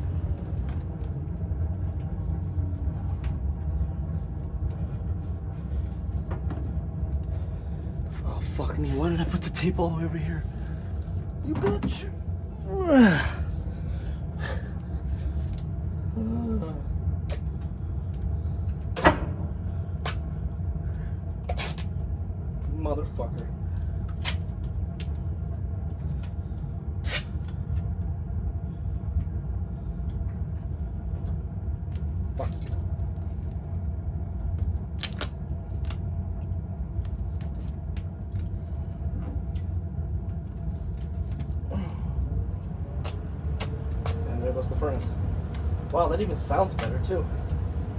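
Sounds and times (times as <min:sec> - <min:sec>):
furnace blower fan rumbling: 0:00.0 - 0:47.9.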